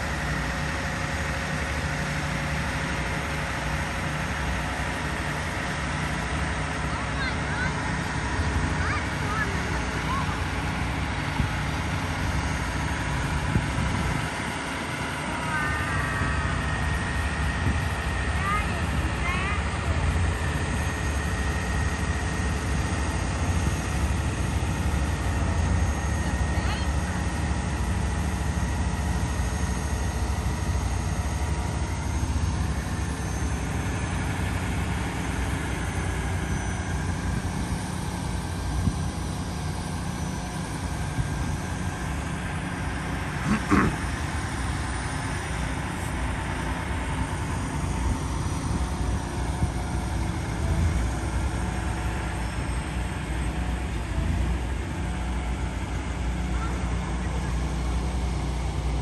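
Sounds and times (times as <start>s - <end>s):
diesel truck engine rumbling: 0.0s - 59.0s.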